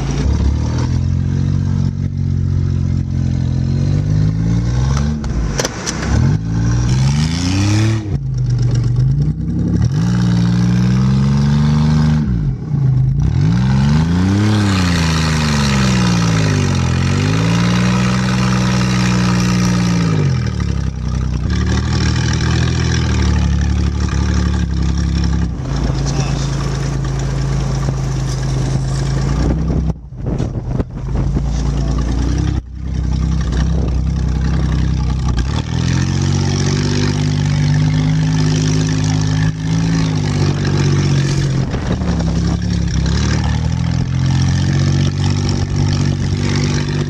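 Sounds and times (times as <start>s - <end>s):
vehicle engine revving: 0.0s - 47.0s.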